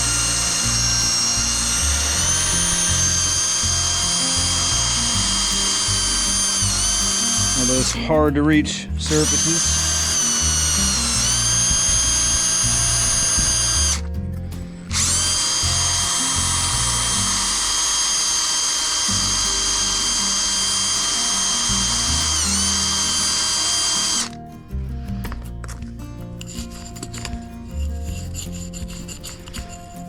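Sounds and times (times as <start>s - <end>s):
power drill whining: 0.0s - 25.8s.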